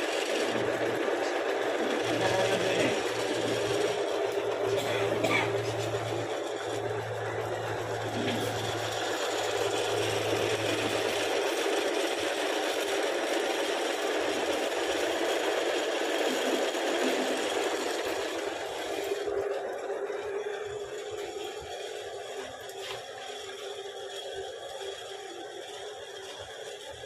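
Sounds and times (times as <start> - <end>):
reaming rig mechanical running: 0.0 - 27.0.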